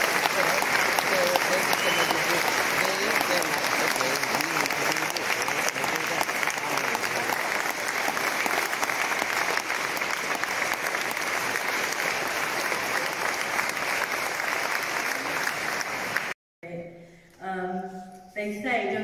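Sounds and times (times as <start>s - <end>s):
large audience clapping: 0.0s - 16.4s.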